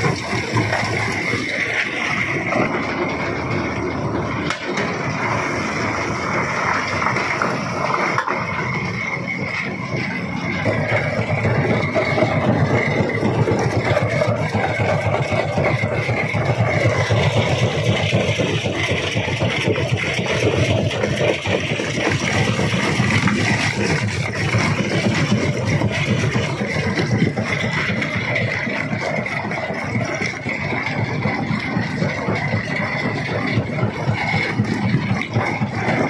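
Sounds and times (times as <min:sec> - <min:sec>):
stone crusher machine drone: 0:00.0 - 0:36.0.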